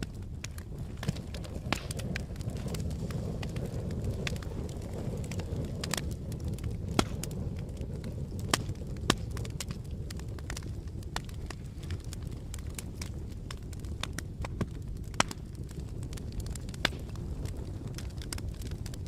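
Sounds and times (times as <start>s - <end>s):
campfire flames rumbling: 0.0s - 19.0s
fire crackling and popping: 0.0s - 19.0s.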